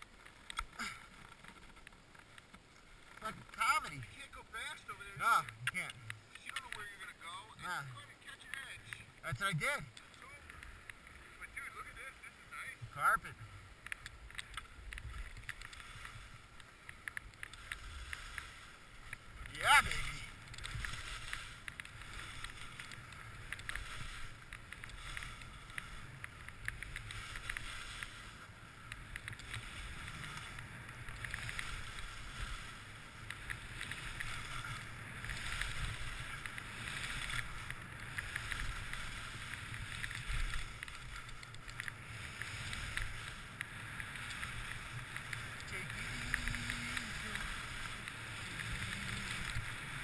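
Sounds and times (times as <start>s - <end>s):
skis swishing over snow: 0.0s - 50.0s.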